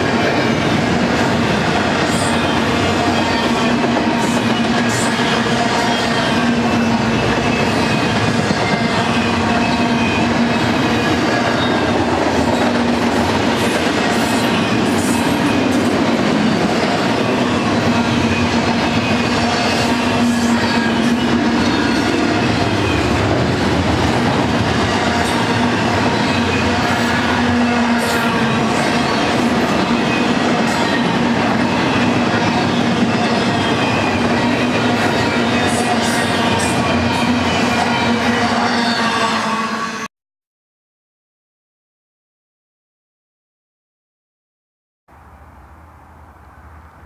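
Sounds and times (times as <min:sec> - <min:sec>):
freight train wheels rumbling: 0:00.0 - 0:39.3.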